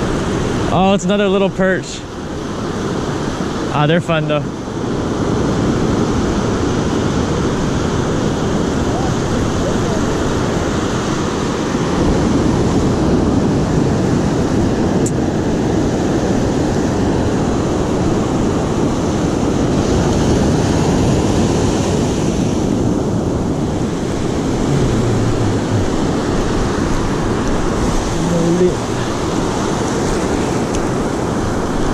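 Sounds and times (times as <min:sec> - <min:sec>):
ocean surf breaking: 0:00.0 - 0:31.9
wind on microphone: 0:04.6 - 0:31.9.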